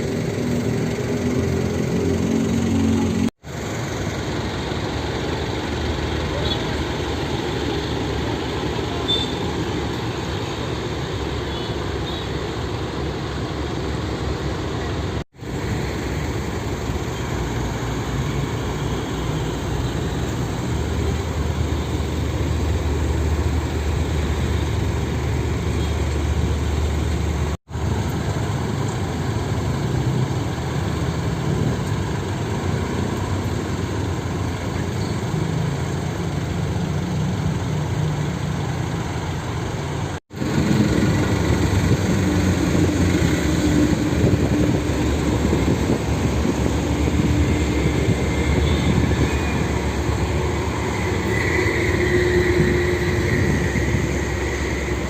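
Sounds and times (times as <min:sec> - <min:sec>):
diesel truck engines rumbling: 0:00.0 - 0:55.0
road traffic: 0:00.0 - 0:55.0.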